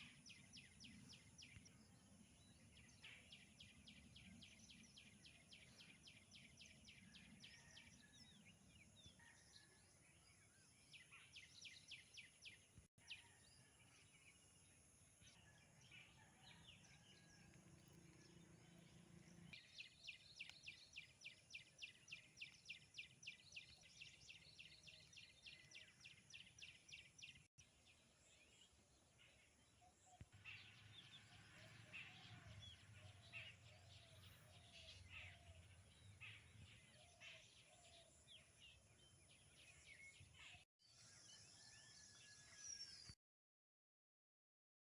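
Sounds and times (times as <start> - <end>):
rural outdoor ambience: 0.0 - 43.2.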